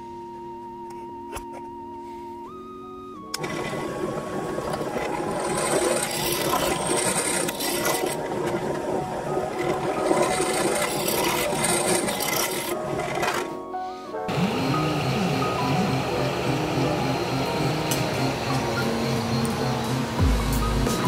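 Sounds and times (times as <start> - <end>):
background music with steady tones: 0.0 - 21.0
shredder cutters and gears grinding: 3.3 - 13.6, 14.3 - 21.0.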